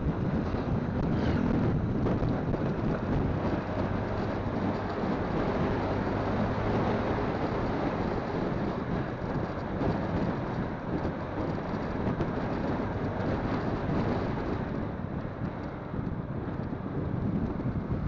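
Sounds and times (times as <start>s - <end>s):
motorcycle engine hum: 0.0s - 18.0s
road noise: 0.0s - 18.0s
wind buffeting microphone: 0.0s - 18.0s.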